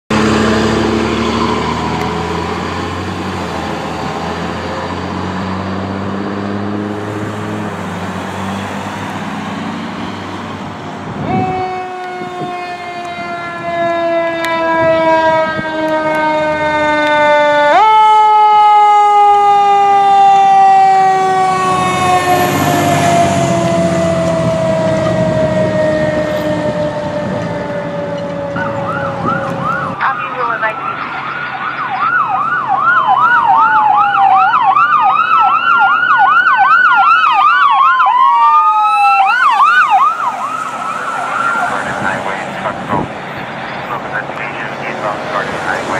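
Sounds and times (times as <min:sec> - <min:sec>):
siren wailing: 0:00.1 - 0:06.0, 0:06.6 - 0:45.9
heavy engine noise: 0:00.1 - 0:45.9.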